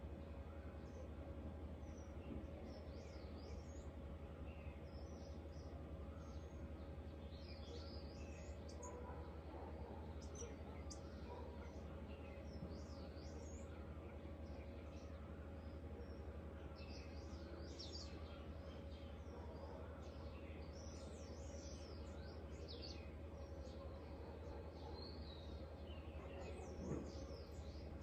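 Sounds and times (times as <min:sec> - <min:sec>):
birds chirping and twittering: 0:00.0 - 0:28.0
steady low hum: 0:00.0 - 0:28.0.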